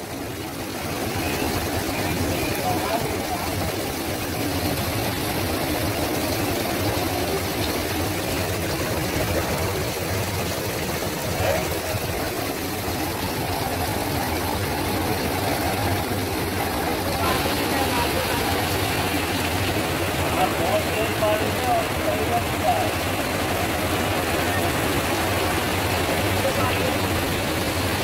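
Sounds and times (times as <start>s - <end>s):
heavy rain on pavement: 0.0s - 28.0s.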